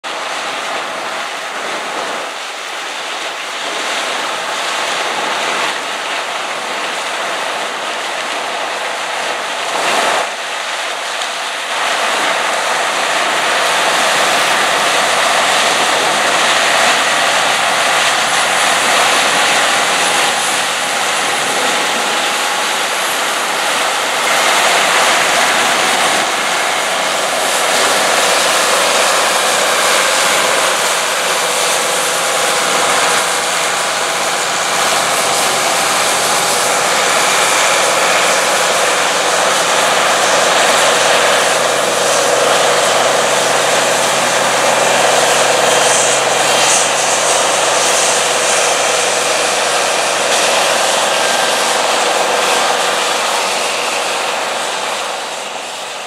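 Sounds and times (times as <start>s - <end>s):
tractor engine running: 4.4s - 55.2s
combine harvester threshing: 6.8s - 55.8s.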